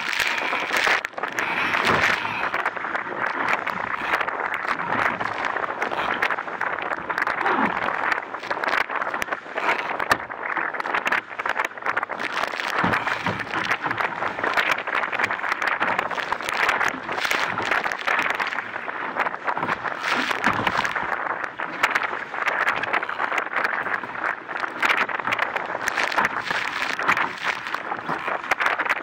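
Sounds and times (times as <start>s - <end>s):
water splashing against boat hull: 0.0s - 29.0s.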